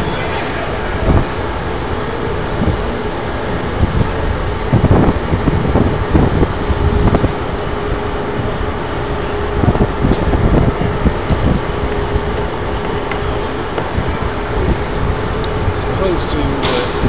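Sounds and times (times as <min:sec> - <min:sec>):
steady mechanical hum: 0:00.0 - 0:17.0
wind buffeting microphone: 0:00.0 - 0:17.0.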